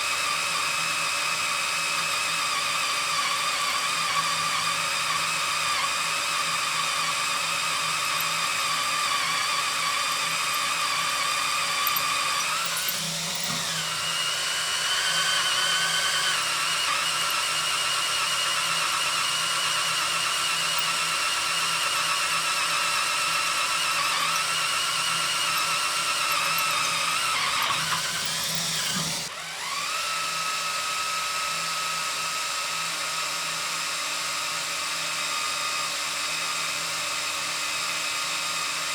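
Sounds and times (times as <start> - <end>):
cordless drill boring into steel: 0.0 - 38.9.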